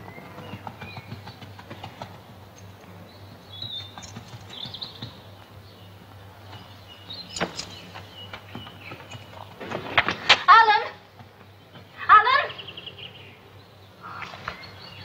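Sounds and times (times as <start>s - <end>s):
horse hooves clopping: 0.0s - 12.3s
birds chirping: 0.0s - 15.0s.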